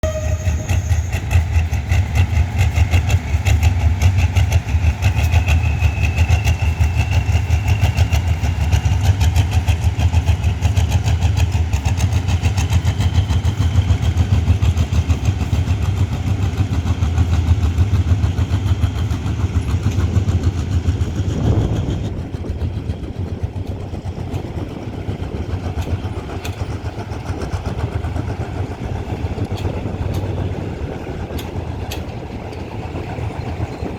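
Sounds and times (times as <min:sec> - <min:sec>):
diesel locomotive engine rumbling: 0:00.0 - 0:33.9.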